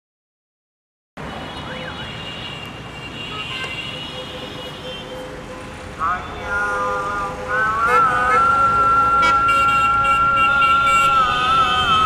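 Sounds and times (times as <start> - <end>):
busy street traffic: 1.2 - 12.0.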